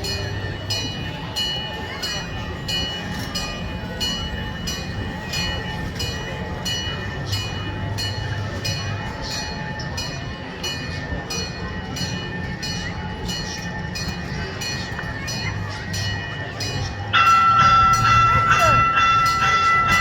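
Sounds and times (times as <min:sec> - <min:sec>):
model train engine rumble: 0:00.0 - 0:20.0.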